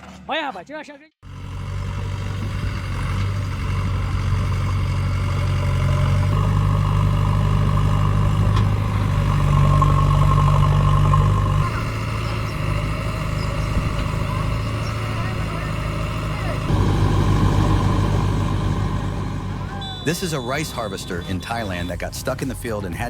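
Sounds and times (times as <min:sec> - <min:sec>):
heavy machine engine running: 0:01.2 - 0:22.6.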